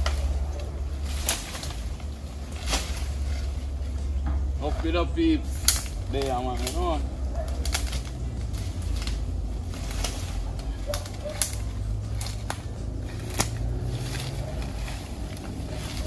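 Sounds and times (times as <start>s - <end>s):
branches dragged through undergrowth: 0.0s - 16.0s
dry branches cracking: 0.0s - 16.0s
steady low rumble: 0.0s - 16.0s.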